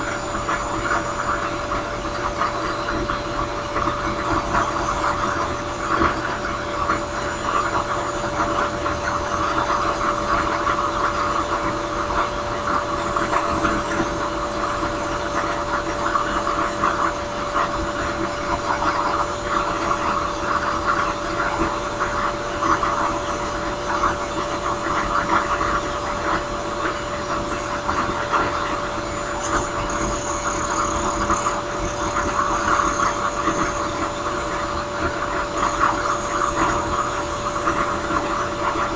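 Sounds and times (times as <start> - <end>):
drill press motor humming: 0.0 - 38.9.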